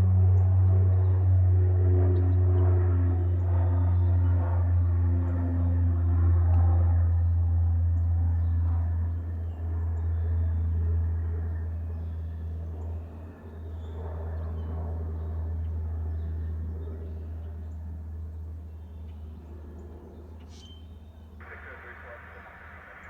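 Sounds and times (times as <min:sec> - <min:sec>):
turboprop aircraft propeller drone: 0:00.0 - 0:23.0.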